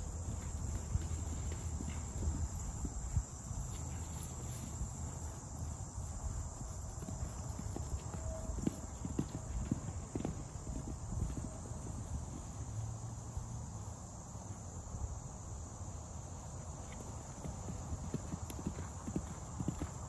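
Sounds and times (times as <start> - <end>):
horse hoofbeats on grass: 0.0 - 15.2, 16.4 - 20.0.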